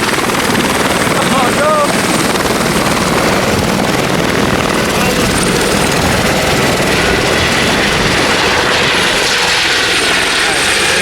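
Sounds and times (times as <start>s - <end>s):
helicopter rotor beating: 0.0s - 11.0s.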